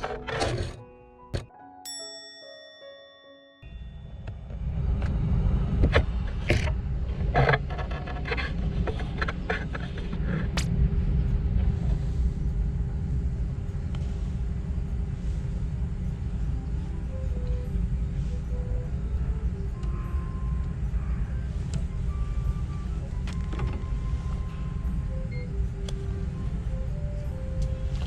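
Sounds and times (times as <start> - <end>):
faint steady hum: 2.6 - 28.0
steady low rumble: 3.7 - 28.0.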